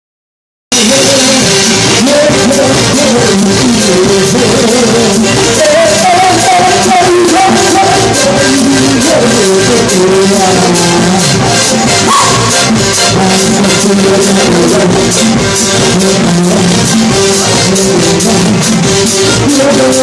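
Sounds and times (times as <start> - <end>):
live band playing dance music: 0.7 - 20.0
percussion beat: 0.7 - 20.0
person singing: 0.7 - 20.0.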